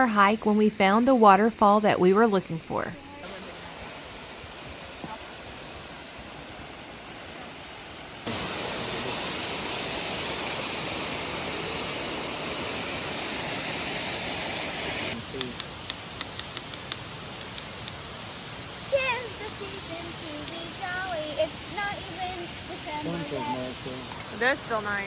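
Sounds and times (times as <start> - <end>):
waterfall roaring: 2.0 - 17.9, 18.8 - 25.0.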